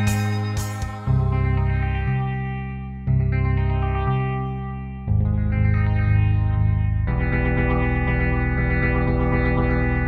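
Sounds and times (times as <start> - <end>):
guitar chords: 0.0 - 10.0
steady bass: 0.0 - 10.0.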